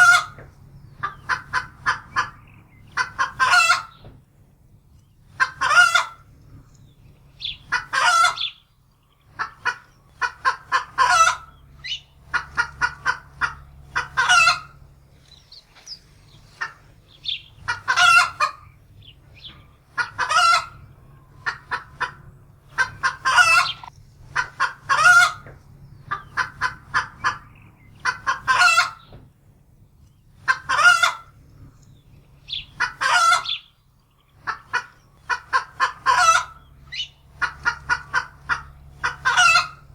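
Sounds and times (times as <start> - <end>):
hen cackling and squawking: 0.0 - 4.1, 5.2 - 6.6, 7.2 - 29.1, 30.4 - 31.4, 32.3 - 39.9.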